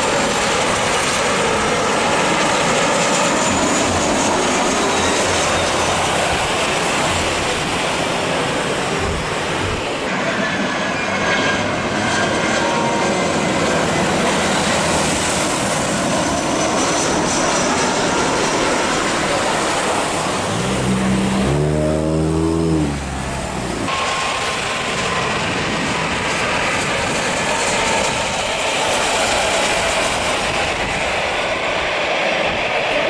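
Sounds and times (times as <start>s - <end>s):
jet airliner engines rushing: 0.0s - 33.0s.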